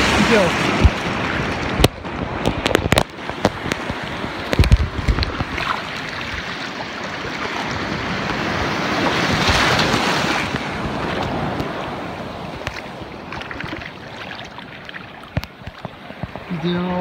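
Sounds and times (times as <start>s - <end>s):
surf rushing over sand: 0.0s - 17.0s.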